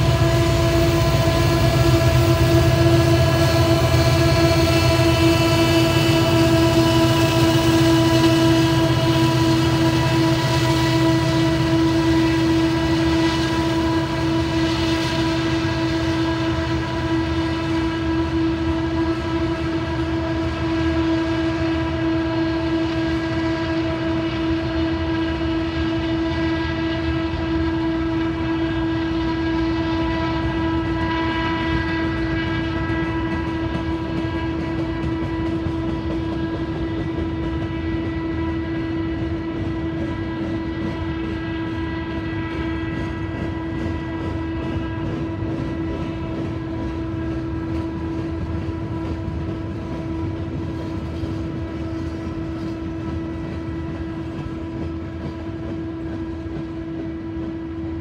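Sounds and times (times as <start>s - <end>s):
diesel locomotives running: 0.0s - 58.0s
freight train cars squealing: 0.0s - 58.0s.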